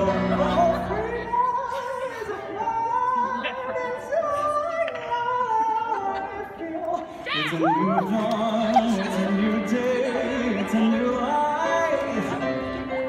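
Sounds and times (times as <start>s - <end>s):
grand piano: 0.0s - 13.0s
man singing jazz: 0.0s - 13.0s.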